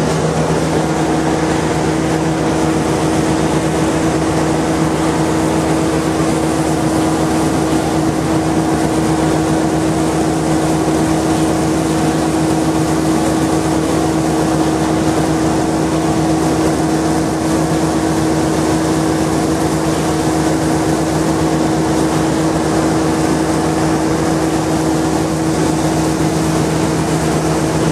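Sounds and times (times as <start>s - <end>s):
pump motor drone: 0.0s - 27.9s.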